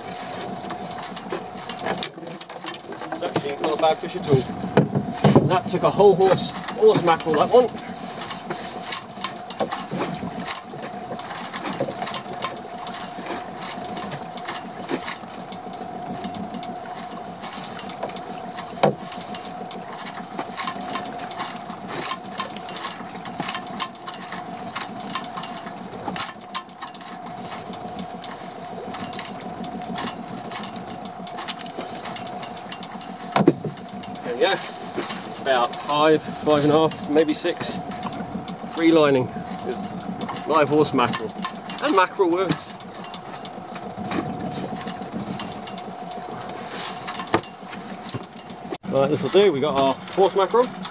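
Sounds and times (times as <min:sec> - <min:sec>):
small motor humming: 0:00.0 - 0:50.9
landing net clicks and rattles: 0:00.6 - 0:50.9.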